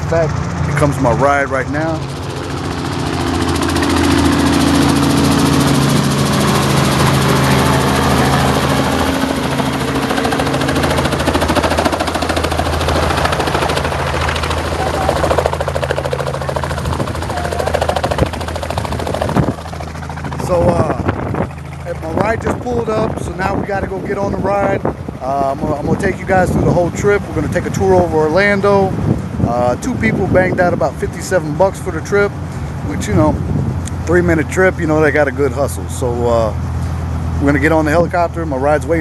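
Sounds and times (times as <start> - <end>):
helicopter engine hum: 0.0 - 39.0
helicopter rotor chop: 0.0 - 39.0.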